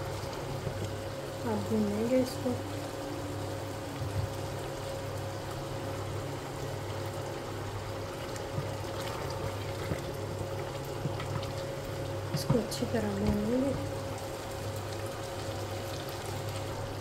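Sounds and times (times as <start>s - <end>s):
food sizzling and bubbling in pot: 0.0s - 17.0s
steady low hum: 0.0s - 17.0s.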